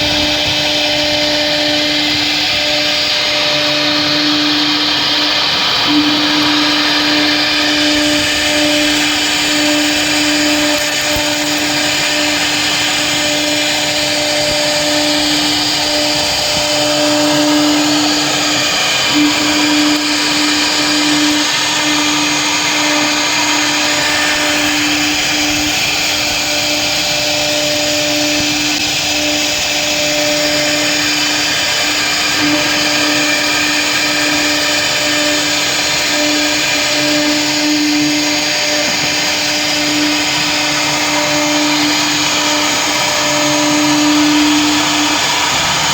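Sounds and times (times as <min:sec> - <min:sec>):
bit cutting plastic hiss: 0:00.0 - 0:45.9
router spindle whine: 0:00.0 - 0:45.9.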